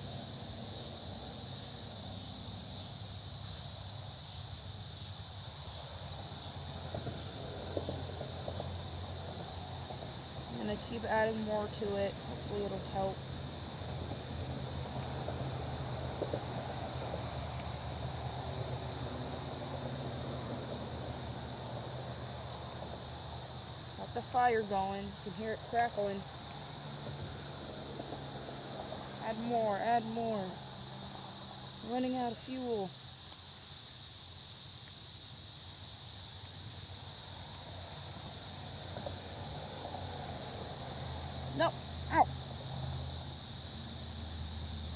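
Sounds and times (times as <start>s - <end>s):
fire of leaves and twigs crackling: 0.0s - 44.9s
high chorus of insects: 0.0s - 44.9s.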